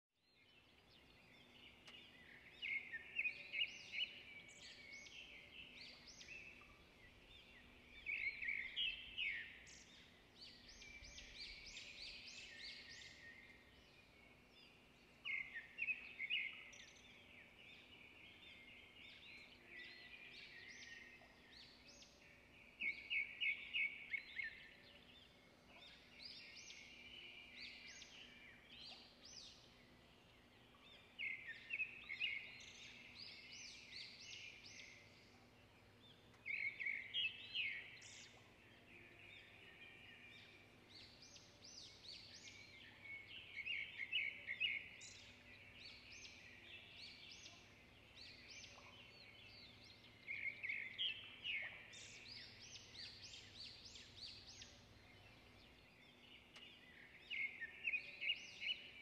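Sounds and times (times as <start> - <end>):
songbird chirping and trilling: 0.2 - 59.0.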